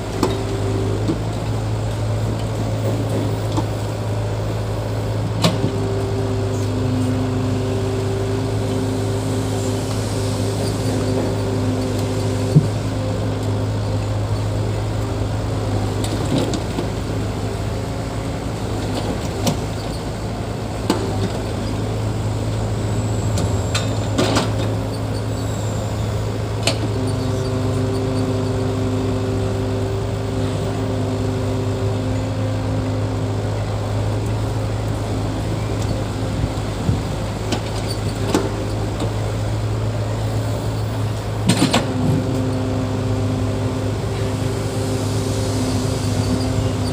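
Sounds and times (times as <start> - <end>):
heavy diesel engine droning: 0.0 - 46.9.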